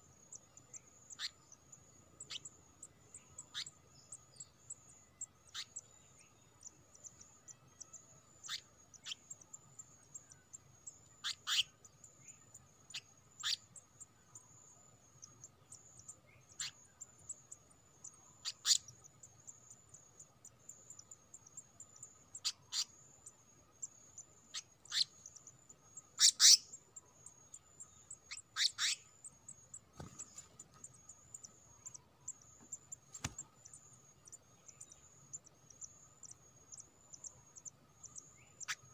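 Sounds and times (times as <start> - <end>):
bird chirps: 0.0 - 38.9
insect trill: 0.0 - 38.9.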